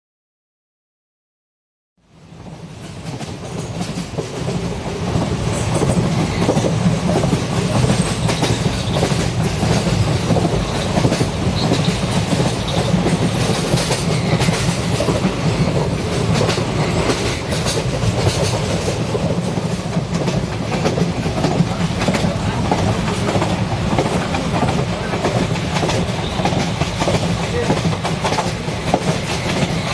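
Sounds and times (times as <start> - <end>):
train wheels clacking on rails: 2.4 - 29.9.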